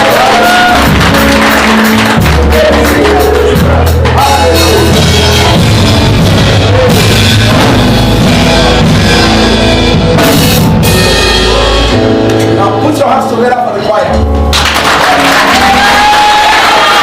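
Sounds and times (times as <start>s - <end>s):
bass: 0.0s - 17.0s
drum kit: 0.0s - 17.0s
guitar: 0.0s - 17.0s.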